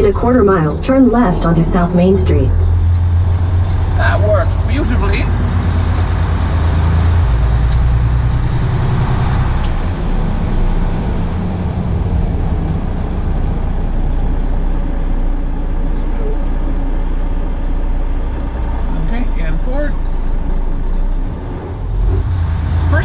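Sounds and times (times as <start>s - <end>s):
truck engine and road drone: 0.0s - 23.0s.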